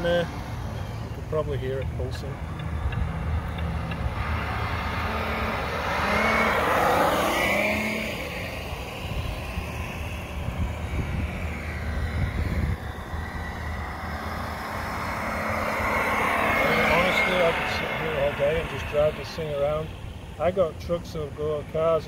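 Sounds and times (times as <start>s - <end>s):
rc car motor whine: 0.0s - 22.0s.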